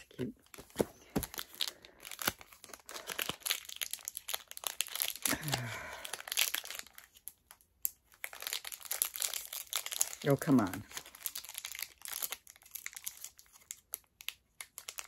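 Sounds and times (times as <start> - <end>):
foil wrapper crinkling: 0.5 - 15.0.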